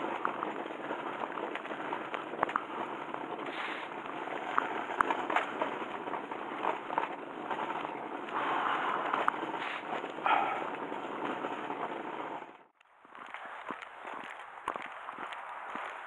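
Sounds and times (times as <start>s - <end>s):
wheels rattling over asphalt: 0.0s - 16.0s
wind and road noise: 0.0s - 16.0s.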